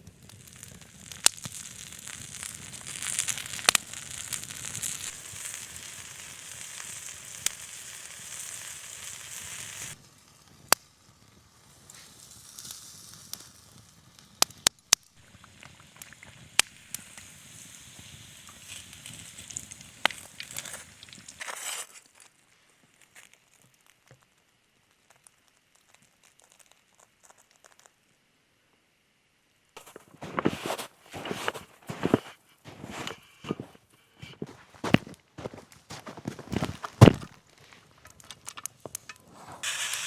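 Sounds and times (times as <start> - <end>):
wood fire crackling and popping: 0.0 - 28.1, 29.8 - 40.0
food sizzling over campfire: 0.0 - 28.2, 29.8 - 40.0.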